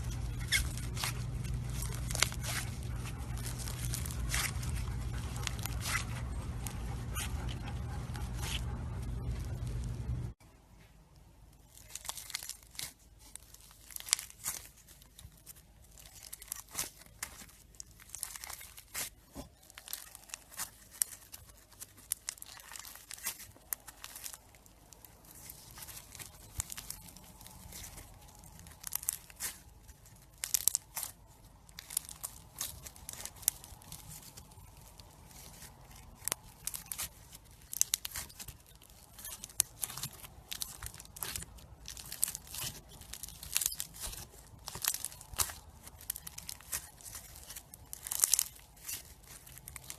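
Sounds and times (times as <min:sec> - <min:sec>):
slime squished by hand: 0:00.0 - 0:10.3, 0:11.6 - 0:49.9.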